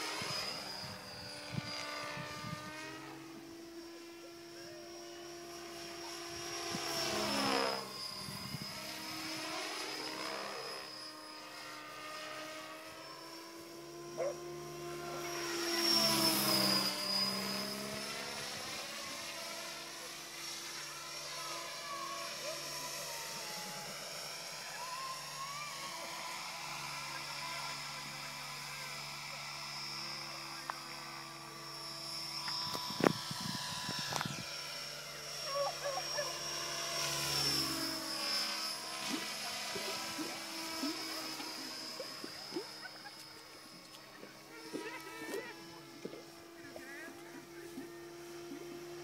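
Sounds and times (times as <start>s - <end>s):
model helicopter high whine: 0.0s - 49.0s.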